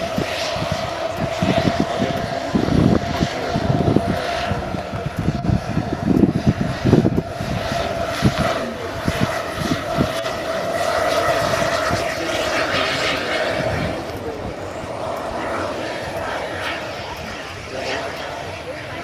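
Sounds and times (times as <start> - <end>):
low rumbling bursts: 0.0 - 19.0
model helicopter turbine whine: 0.0 - 19.0.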